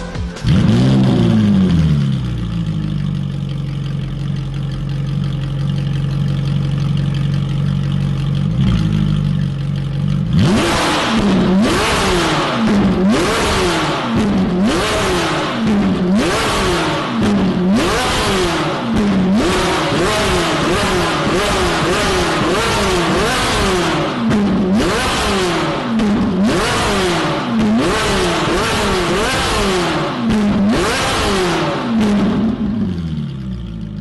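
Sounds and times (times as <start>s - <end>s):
car engine idling: 0.0s - 34.0s
car engine revving: 0.3s - 34.0s.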